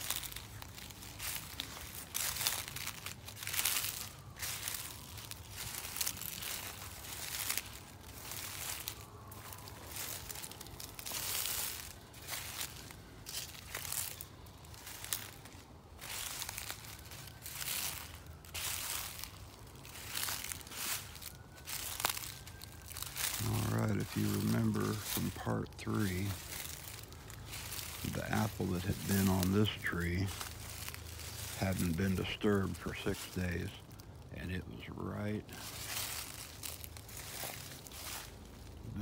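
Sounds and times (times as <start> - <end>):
footsteps crunching through dry leaves: 0.0 - 39.0.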